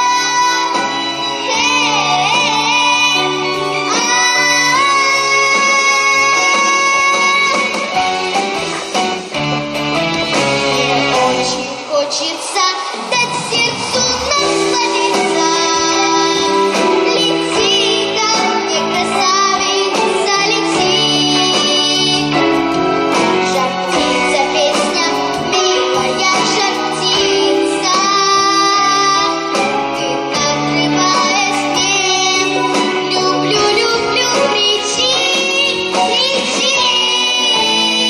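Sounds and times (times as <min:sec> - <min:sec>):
girl singing pop song with vibrato: 0:00.0 - 0:09.5, 0:10.3 - 0:38.0
instrumental accompaniment: 0:00.0 - 0:12.4, 0:13.0 - 0:38.0.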